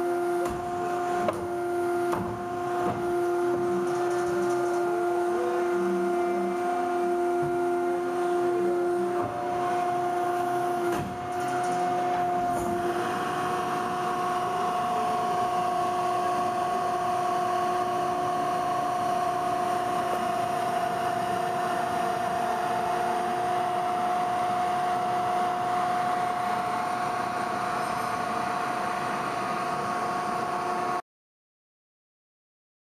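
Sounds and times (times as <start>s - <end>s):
hydraulic power unit whining: 0.0s - 31.0s.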